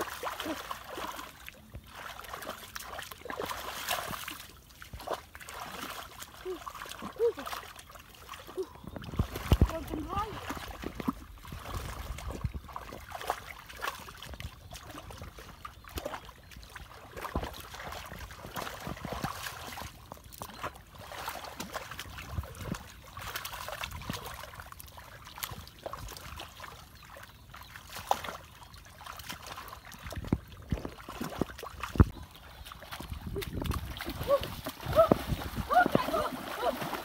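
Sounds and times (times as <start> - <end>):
hands splashing in muddy water: 0.0 - 37.0.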